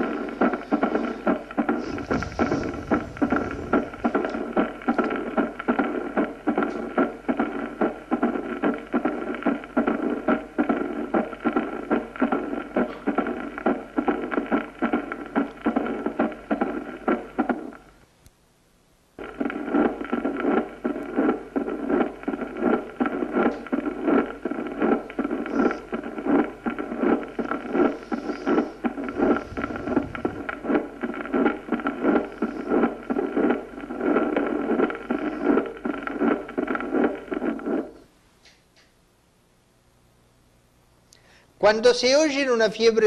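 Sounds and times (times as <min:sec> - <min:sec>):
heartbeat sounds: 0:00.0 - 0:18.0, 0:19.2 - 0:38.1.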